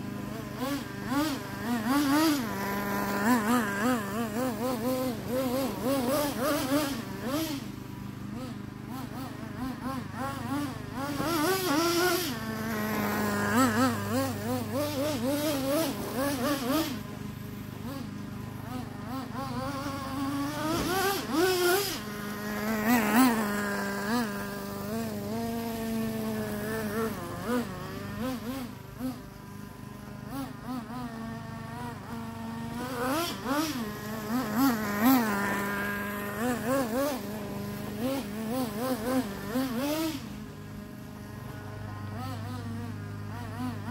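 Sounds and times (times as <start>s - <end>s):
small engine buzzing: 0.0s - 43.9s.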